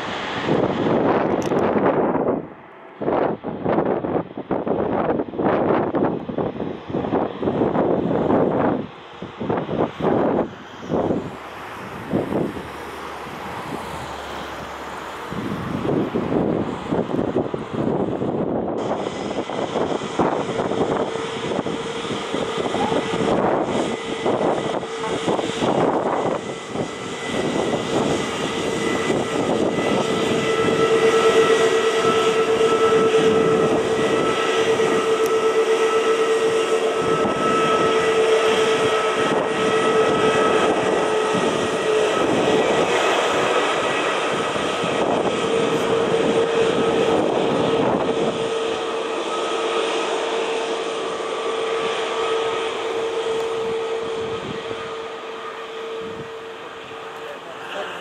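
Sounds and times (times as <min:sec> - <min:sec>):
jet engines droning: 0:00.0 - 0:58.0.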